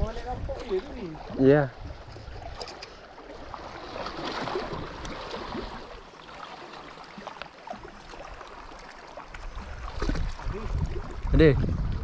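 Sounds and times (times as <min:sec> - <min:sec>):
waves lapping against rocks: 0:00.0 - 0:12.0.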